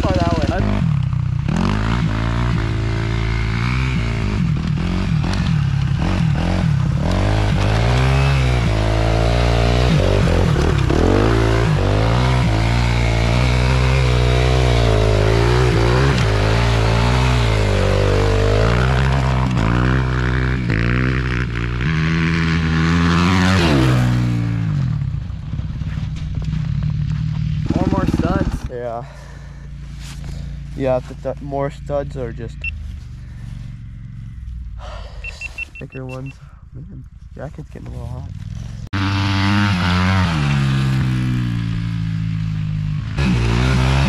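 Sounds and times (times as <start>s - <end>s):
small off-road engine revving: 0.0s - 36.3s, 37.2s - 44.0s.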